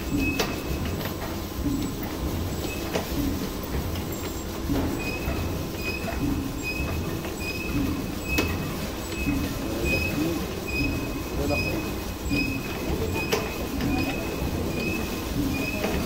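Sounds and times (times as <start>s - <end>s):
machine rumbling: 0.0s - 16.0s.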